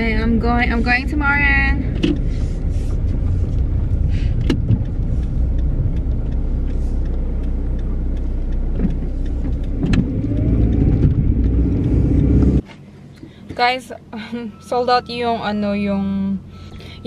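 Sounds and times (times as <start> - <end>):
car whine: 0.0 - 17.0
engine and road rumble: 0.0 - 17.0.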